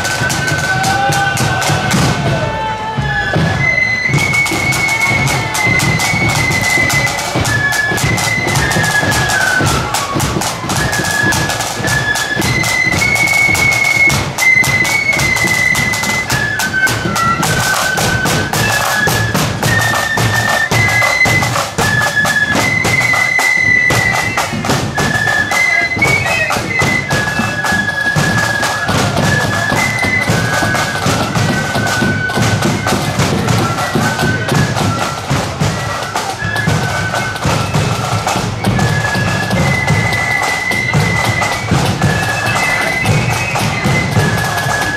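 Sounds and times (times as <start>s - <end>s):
flutes playing melody: 0.0s - 44.9s
side drum and bass drum: 0.0s - 44.9s.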